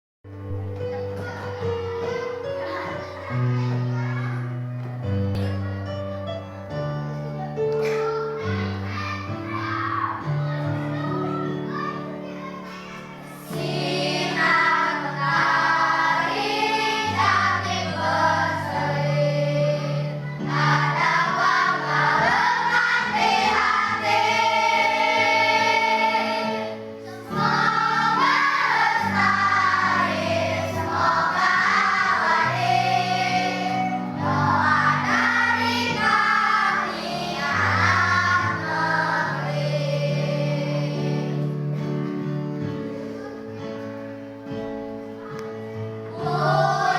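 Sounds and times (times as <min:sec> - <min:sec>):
instrumental accompaniment: 0:00.3 - 0:46.9
children's choir singing: 0:05.0 - 0:44.5, 0:45.1 - 0:46.9.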